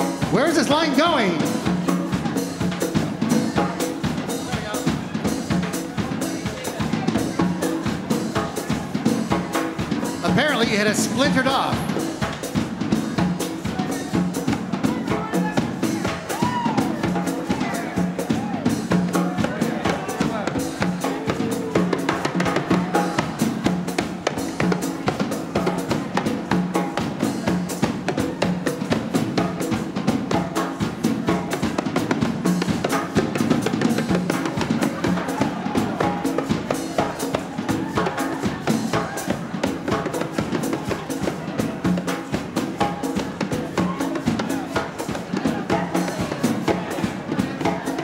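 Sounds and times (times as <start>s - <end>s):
drums beating steadily: 0.0s - 48.0s
live latin dance band: 0.0s - 48.0s.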